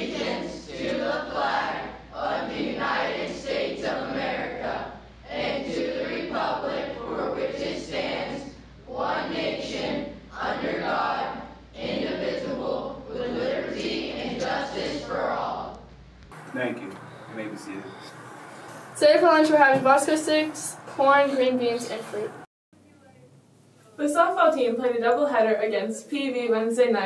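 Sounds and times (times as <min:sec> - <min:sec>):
group of voices reciting in unison: 0:00.0 - 0:22.5.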